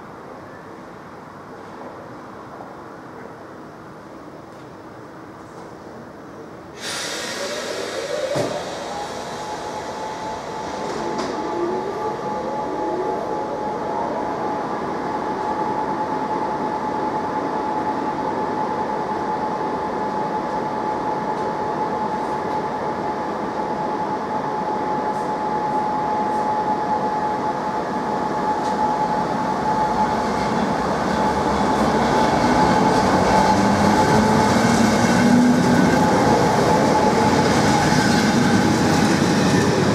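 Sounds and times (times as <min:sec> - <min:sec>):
train running noise: 0:06.8 - 0:39.9.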